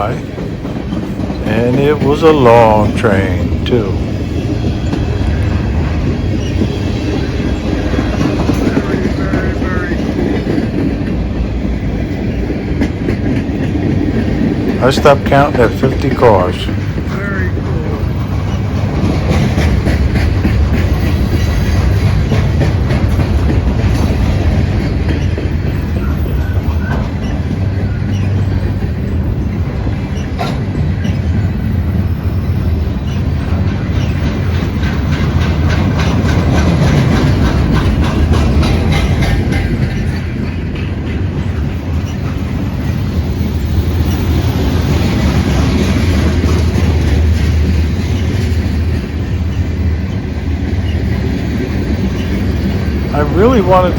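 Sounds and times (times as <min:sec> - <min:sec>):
freight train rolling past: 0:00.0 - 0:53.9
wheels clattering over rail joints: 0:00.0 - 0:53.9.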